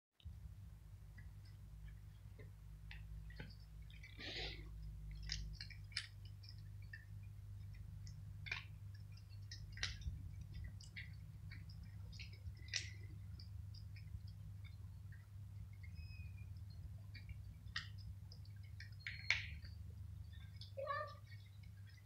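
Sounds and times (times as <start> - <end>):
low steady hum: 0.2 - 22.0
cats crunching dry kibble: 1.2 - 22.0.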